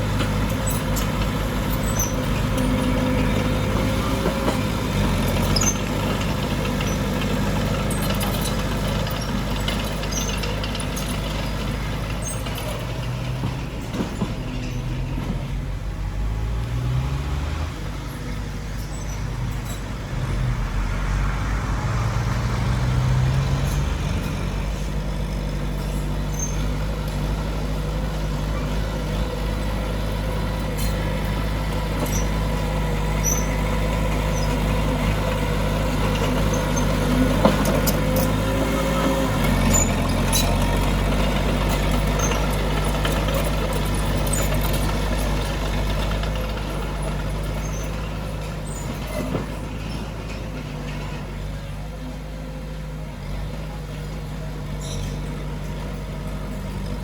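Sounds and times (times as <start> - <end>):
diesel engines revving: 0.0 - 57.0.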